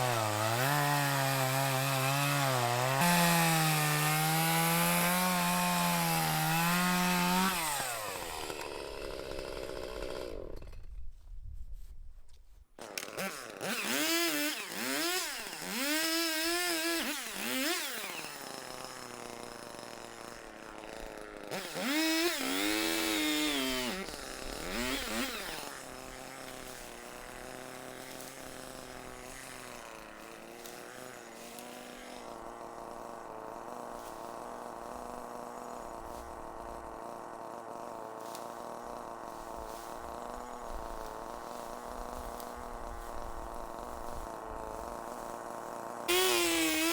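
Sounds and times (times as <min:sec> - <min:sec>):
chainsaw revving and idling: 0:00.0 - 0:10.9, 0:12.8 - 0:46.9.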